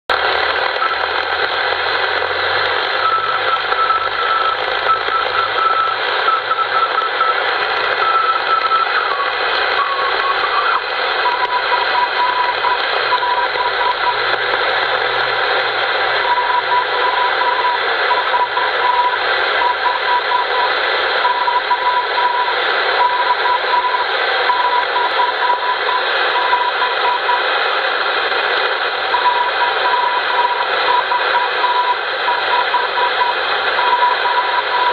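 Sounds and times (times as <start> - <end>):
receiver hiss: 0.1 - 34.9
morse code tone: 2.9 - 14.4, 16.1 - 27.5, 29.1 - 34.9.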